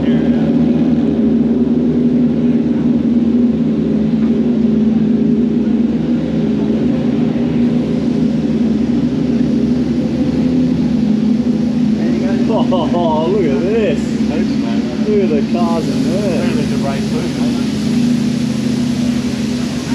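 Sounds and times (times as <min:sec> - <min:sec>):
steady mechanical drone: 0:00.0 - 0:19.9.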